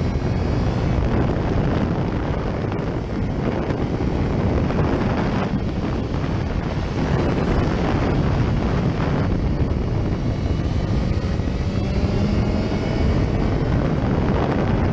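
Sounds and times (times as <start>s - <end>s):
motorcycle engine: 0.0s - 14.9s
road noise: 0.0s - 14.9s
wind rushing over microphone: 0.0s - 14.9s.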